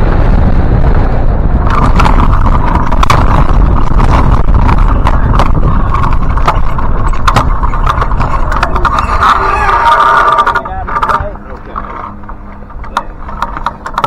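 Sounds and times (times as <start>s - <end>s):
heavy wind buffeting microphone: 0.0s - 14.0s.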